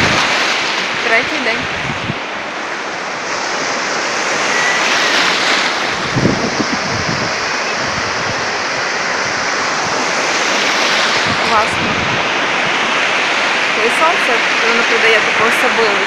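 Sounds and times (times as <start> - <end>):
sea surf washing onto shore: 0.0 - 16.0
wind buffeting microphone: 0.0 - 16.0.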